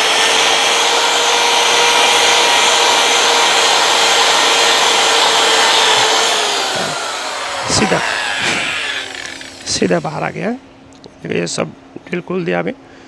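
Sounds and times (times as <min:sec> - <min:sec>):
electric drill whining: 0:00.0 - 0:10.5.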